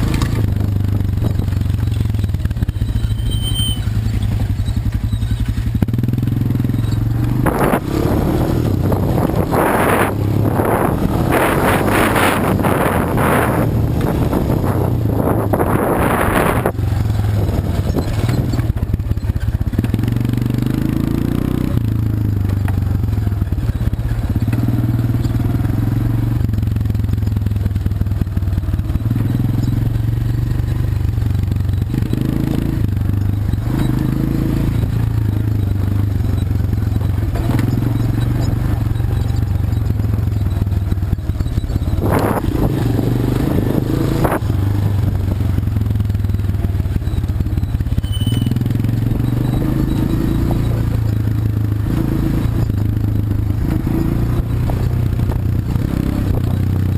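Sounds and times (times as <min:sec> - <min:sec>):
quad bike engine running: 0:00.0 - 0:56.9.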